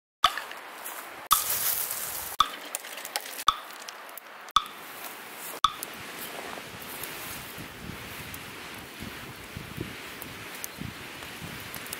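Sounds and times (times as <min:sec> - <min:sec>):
steady outdoor hiss: 0:00.3 - 0:11.9.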